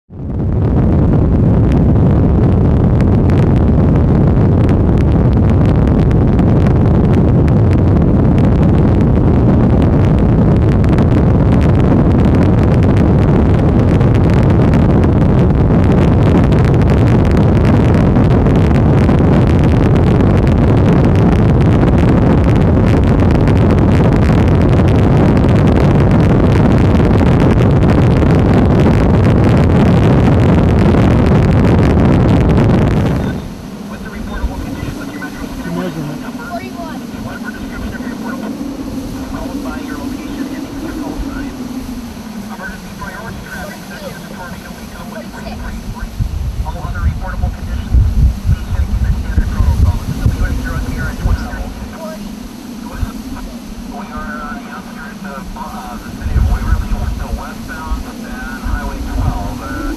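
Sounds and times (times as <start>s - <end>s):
strong wind roaring: 0.1s - 59.9s.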